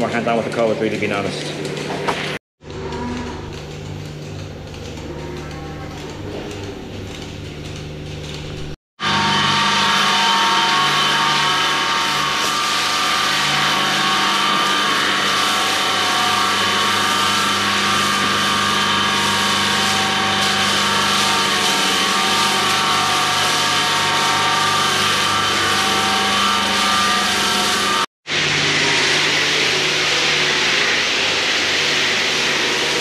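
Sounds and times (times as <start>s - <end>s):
machine hum: 1.5s - 33.0s.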